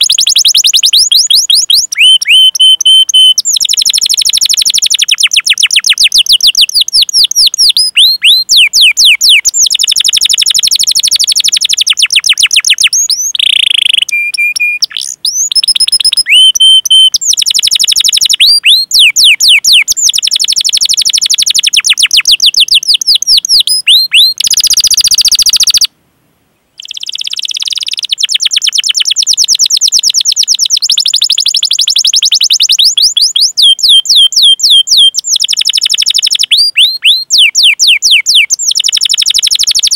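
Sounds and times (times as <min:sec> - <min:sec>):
canary singing rapid chirps: 0:00.0 - 0:25.9, 0:26.8 - 0:39.9.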